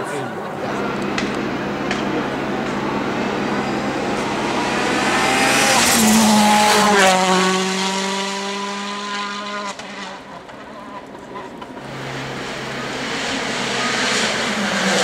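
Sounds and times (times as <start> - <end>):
rally car passing at full throttle: 0.4 - 15.0.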